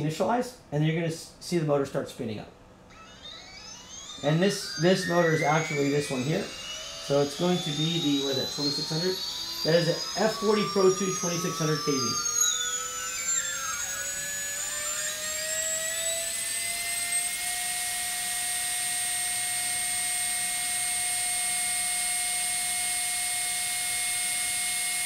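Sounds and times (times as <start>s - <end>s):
drone motor high whine: 2.9s - 25.0s.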